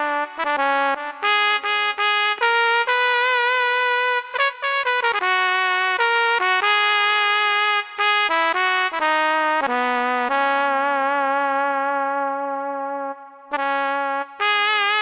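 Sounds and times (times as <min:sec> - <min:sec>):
keyboard trumpet-like melody: 0:00.0 - 0:15.0.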